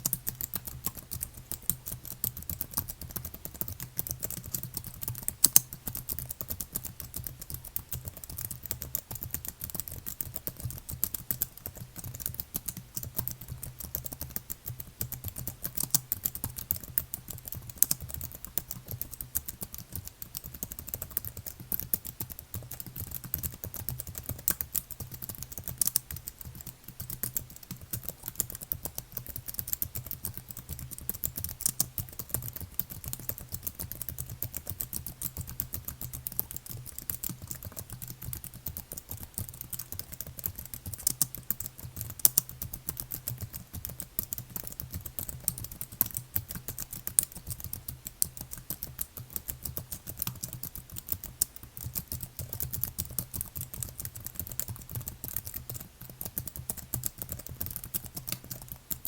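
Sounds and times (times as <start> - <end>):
typing on computer keyboard: 0.0 - 59.0.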